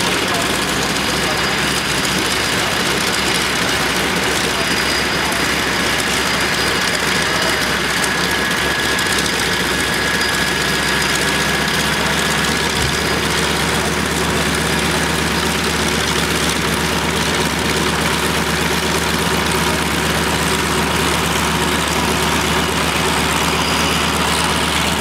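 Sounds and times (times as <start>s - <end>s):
biplane engine idling: 0.0s - 25.0s.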